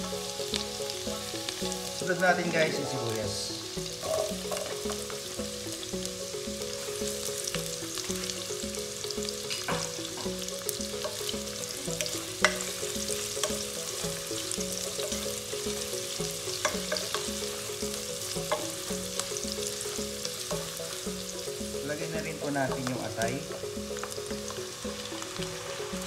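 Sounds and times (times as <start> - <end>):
onion sizzling in hot oil: 0.0 - 26.0.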